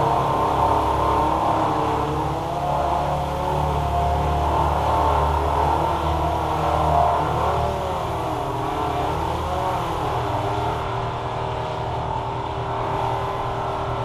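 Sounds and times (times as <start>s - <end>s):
engine revving up and down: 0.0s - 14.0s.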